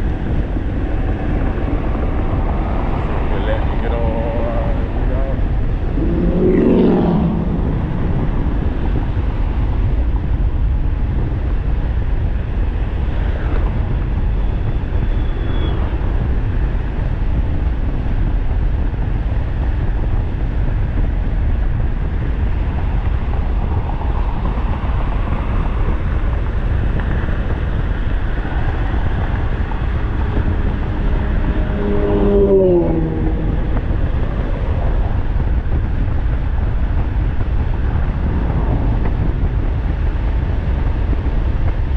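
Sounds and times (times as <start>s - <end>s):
road noise: 0.0s - 41.9s
wind rush: 0.0s - 41.9s.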